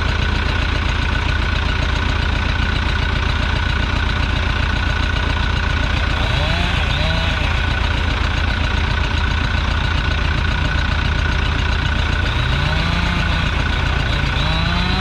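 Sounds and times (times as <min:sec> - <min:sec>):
heavy equipment engine running: 0:00.0 - 0:15.0.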